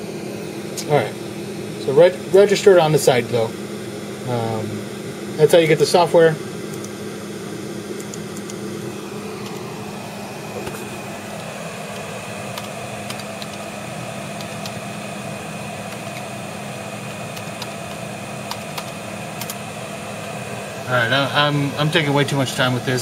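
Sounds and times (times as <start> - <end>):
high-pitched whine: 0.0 - 23.0
room hum and hiss: 0.0 - 23.0.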